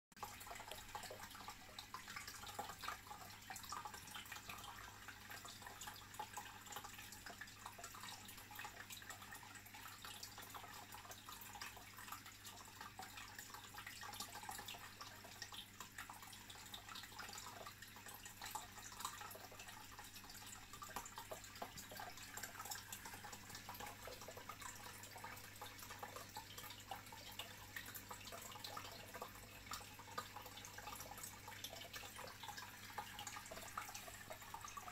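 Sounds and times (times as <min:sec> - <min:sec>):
aquarium water bubbling: 0:00.2 - 0:34.9
tiny drip-like ticks: 0:00.2 - 0:34.9.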